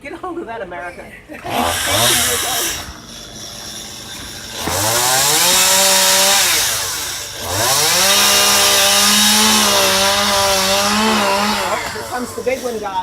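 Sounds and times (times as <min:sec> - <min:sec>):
chainsaw revving: 0:01.4 - 0:13.0.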